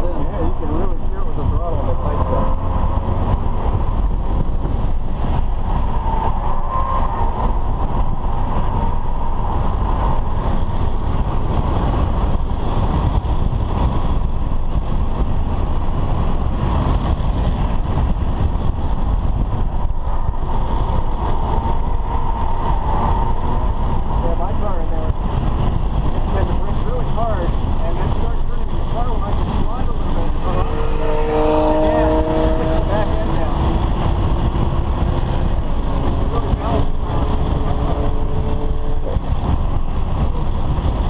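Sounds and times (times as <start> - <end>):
car engine: 0.0 - 41.0
wind noise: 0.0 - 41.0.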